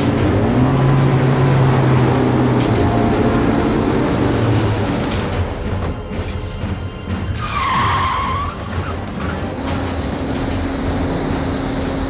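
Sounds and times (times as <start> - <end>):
car engine and road noise: 0.0 - 12.0
outboard motors droning: 0.0 - 12.0
tyres squealing: 0.0 - 12.0.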